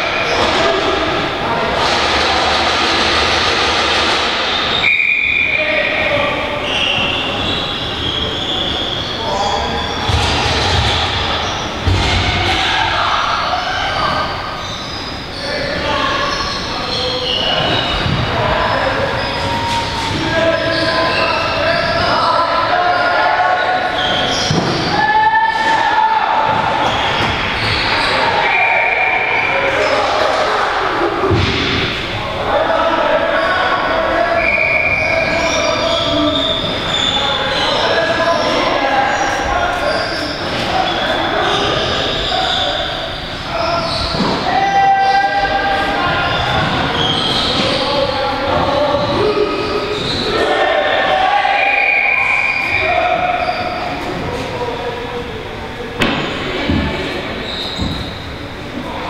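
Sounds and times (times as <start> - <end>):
high squeal: 0.0 - 30.6, 32.0 - 54.4, 56.9 - 59.0
lacrosse game rush in echoing arena: 0.0 - 59.0.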